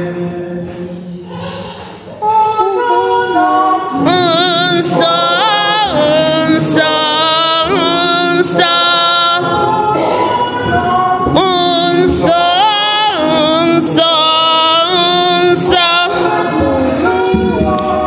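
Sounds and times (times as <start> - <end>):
congregation singing along: 0.0 - 18.0
woman singing a hymn: 2.2 - 18.0.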